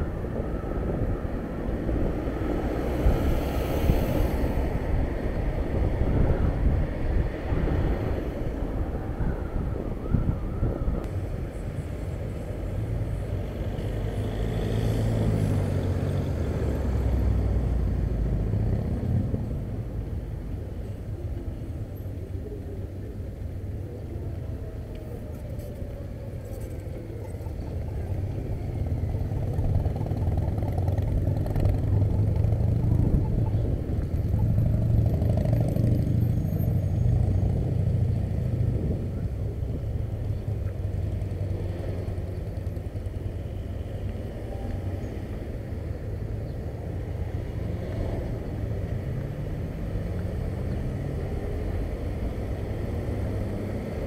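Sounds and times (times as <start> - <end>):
motor vehicles passing: 0.0 - 54.0
road traffic rumble: 0.0 - 54.0.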